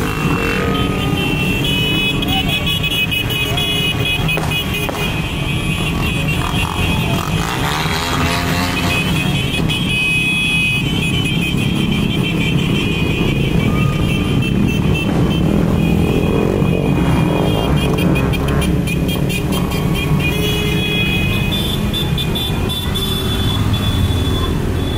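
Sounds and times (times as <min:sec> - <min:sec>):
motorcycles riding past: 0:00.0 - 0:24.9.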